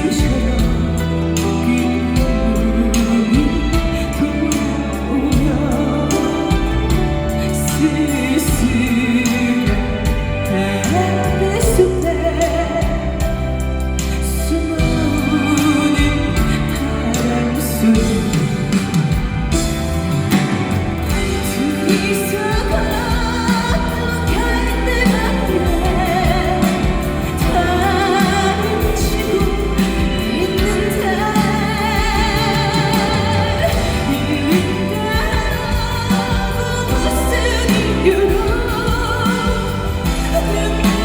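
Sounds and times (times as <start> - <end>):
band accompaniment: 0.0 - 41.0
woman singing ballad: 0.0 - 41.0.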